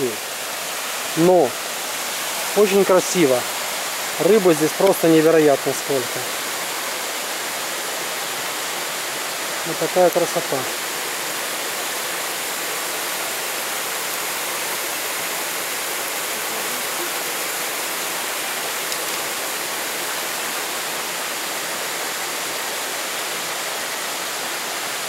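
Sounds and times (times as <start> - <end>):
water rushing over waterfall: 0.0 - 25.0.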